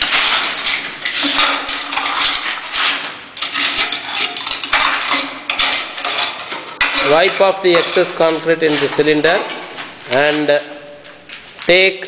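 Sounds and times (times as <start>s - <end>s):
trowel scraping metal rim: 0.0s - 10.8s.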